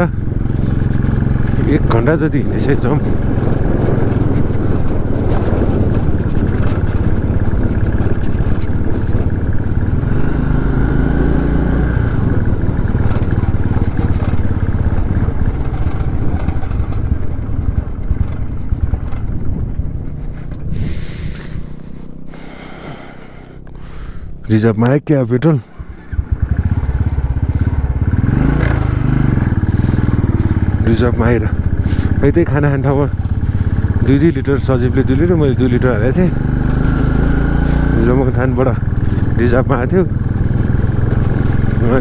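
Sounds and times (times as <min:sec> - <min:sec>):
motorcycle engine rumble: 0:00.0 - 0:42.0.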